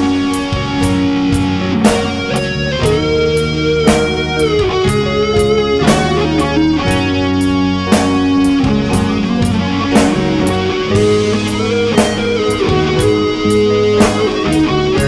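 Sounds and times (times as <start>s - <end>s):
steady drum beat: 0.0s - 15.0s
sustained guitar chords: 0.0s - 15.0s.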